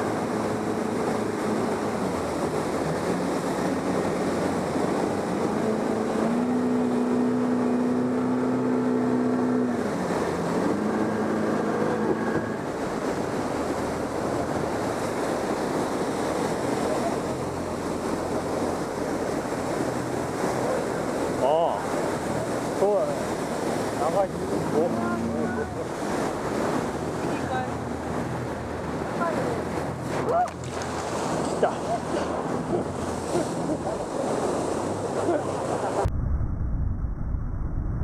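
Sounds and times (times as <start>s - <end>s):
rushing waterfall: 0.0s - 36.1s
engine hum: 0.0s - 38.0s.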